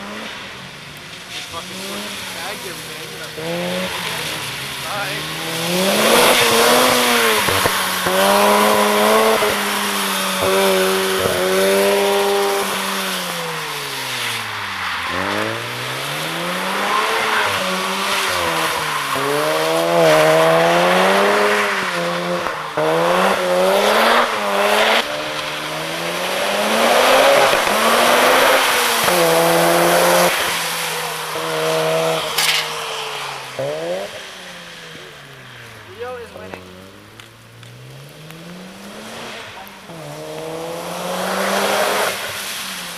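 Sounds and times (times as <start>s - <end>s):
rotary engine revving hard: 1.3s - 42.9s.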